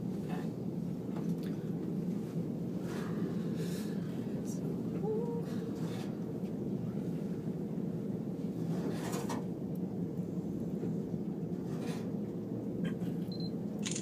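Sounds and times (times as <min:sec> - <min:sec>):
elevator low rumble: 0:00.0 - 0:14.0.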